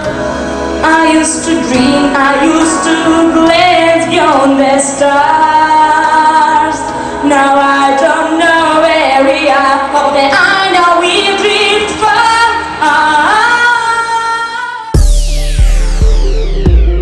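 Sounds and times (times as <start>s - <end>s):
pop ballad backing music: 0.0s - 17.0s.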